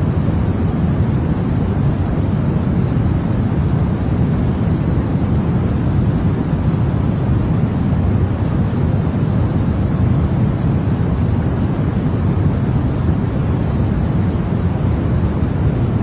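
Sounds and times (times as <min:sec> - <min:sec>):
steady white noise hiss: 0:00.0 - 0:16.0.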